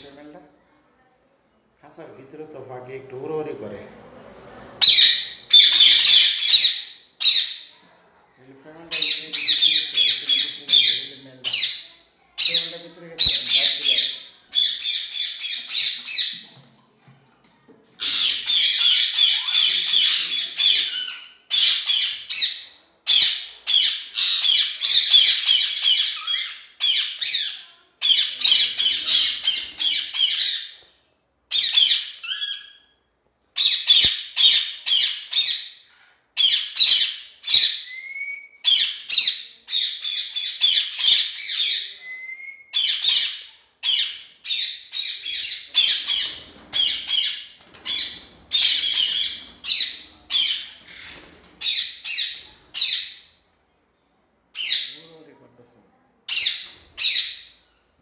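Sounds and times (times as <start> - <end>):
parrots squawking: 4.8 - 7.8, 8.9 - 16.5, 18.0 - 30.8, 31.5 - 32.9, 33.6 - 53.4, 54.5 - 55.1, 56.3 - 57.7.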